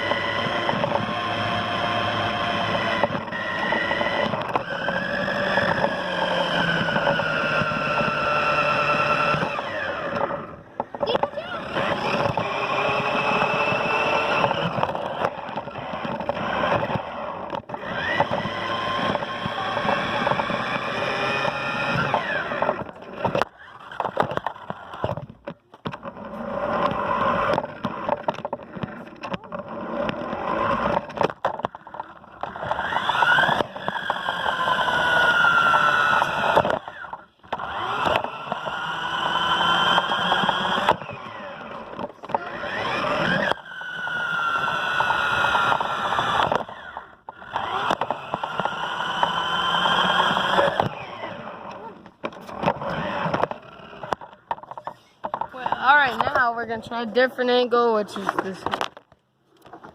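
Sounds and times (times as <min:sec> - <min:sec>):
toy car electric motor whining: 0:00.0 - 0:59.9.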